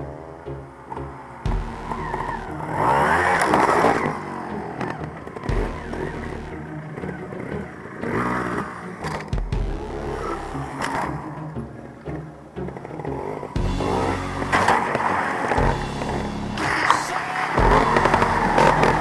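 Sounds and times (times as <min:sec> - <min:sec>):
motorcycle engine revving: 0:00.0 - 0:11.9, 0:12.6 - 0:19.0.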